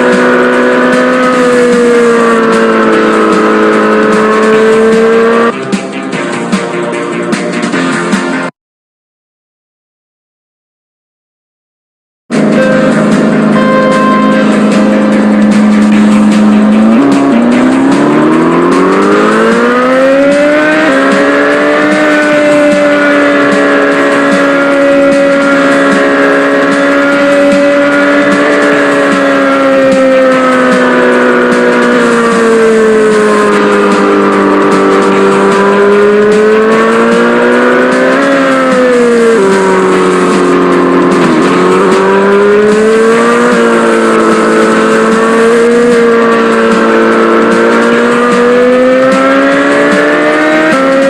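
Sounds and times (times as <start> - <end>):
small motorbike engine revving: 0.0 - 5.6, 12.3 - 51.0.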